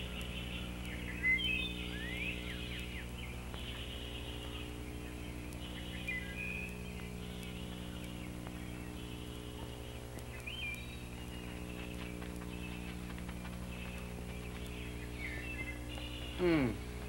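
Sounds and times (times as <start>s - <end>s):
birds chirping: 0.0s - 17.0s
steady low hum: 0.0s - 17.0s.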